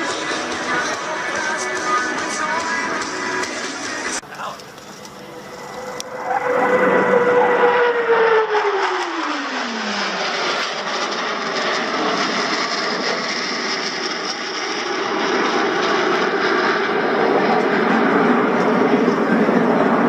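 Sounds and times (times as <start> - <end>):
falling jet whine: 0.0 - 20.0
jets passing by: 0.0 - 20.0.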